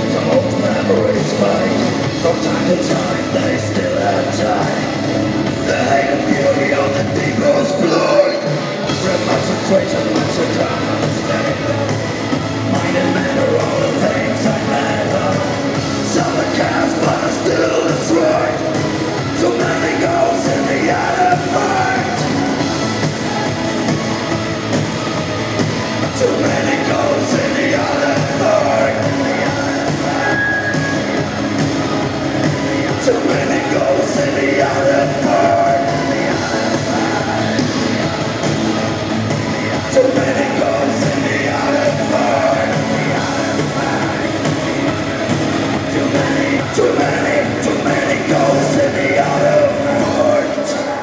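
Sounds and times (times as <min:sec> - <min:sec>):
person singing: 0:00.0 - 0:24.2, 0:25.1 - 0:51.0
electric guitars: 0:00.0 - 0:51.0
live rock band playing: 0:00.0 - 0:51.0.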